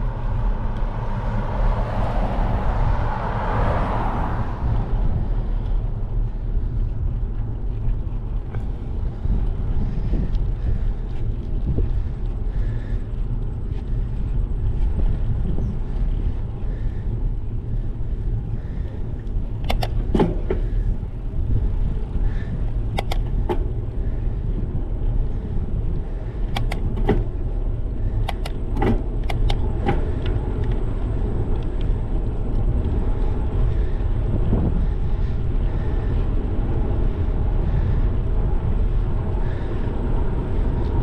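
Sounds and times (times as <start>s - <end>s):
tyre noise on asphalt: 0.0s - 41.0s
wind rumbling on microphone: 0.0s - 41.0s
bike clicks and rattles: 4.7s - 41.0s.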